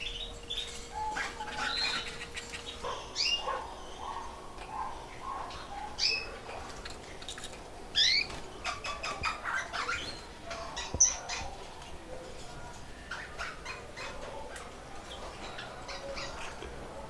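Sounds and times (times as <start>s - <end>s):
canaries chirping: 0.0s - 17.0s.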